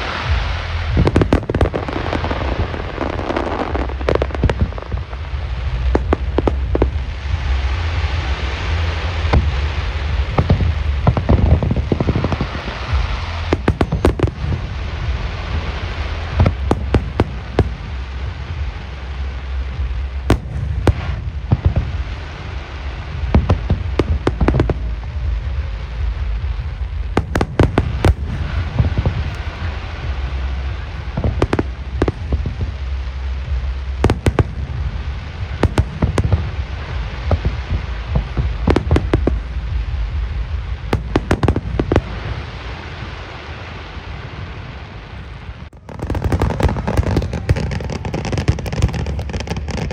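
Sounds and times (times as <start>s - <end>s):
low rumble: 0.0s - 49.9s.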